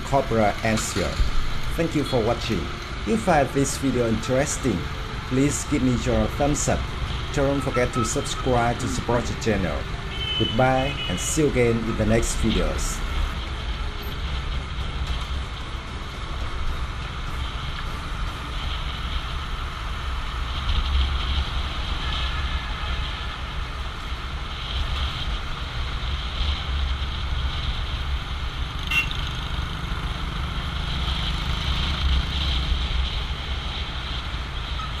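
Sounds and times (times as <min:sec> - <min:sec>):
vehicle rumble with hiss: 0:00.0 - 0:35.0.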